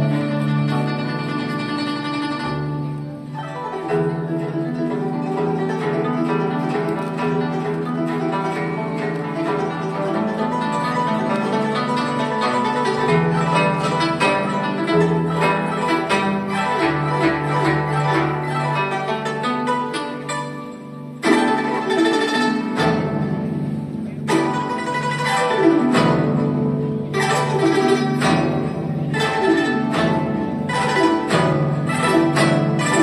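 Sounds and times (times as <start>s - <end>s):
zither plucked melody: 0.0s - 33.0s.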